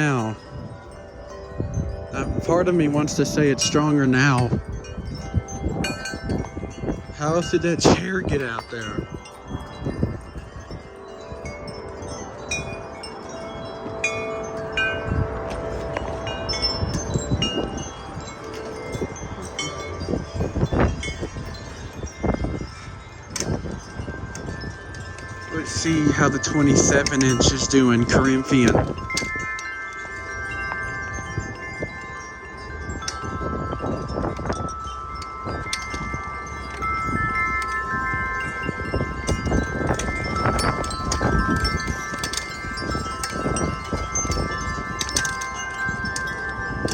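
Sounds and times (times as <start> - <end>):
wind chimes ringing: 0.0 - 46.9
wind gusts rumbling on microphone: 0.0 - 46.9.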